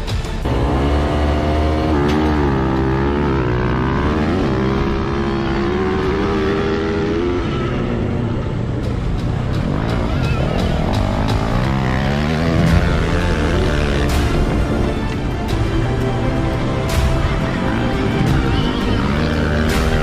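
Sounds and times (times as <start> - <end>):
dirt bike engine revving: 0.2 - 20.0.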